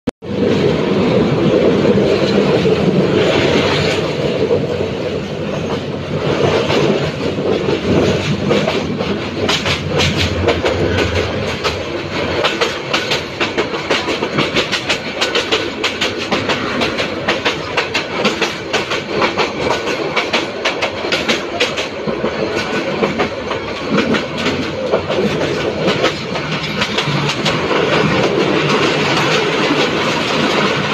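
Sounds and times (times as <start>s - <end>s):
train wheels rumbling on track: 0.2s - 30.9s
wheels clickety-clack over rail joints: 0.2s - 30.9s.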